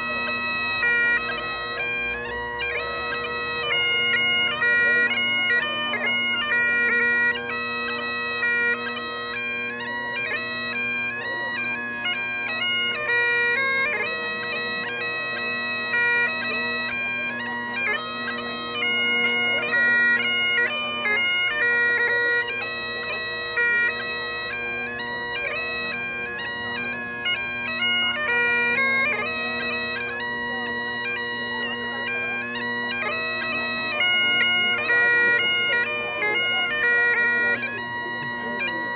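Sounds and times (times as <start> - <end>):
bagpipes playing: 0.0 - 38.9.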